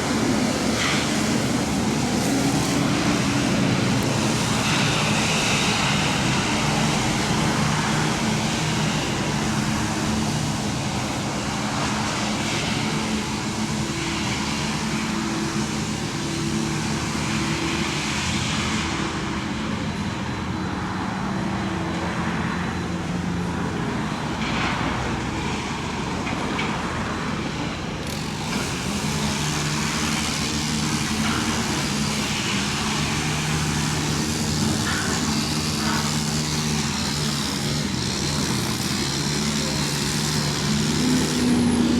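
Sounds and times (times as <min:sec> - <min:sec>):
excavator diesel engine working: 0:00.0 - 0:41.9.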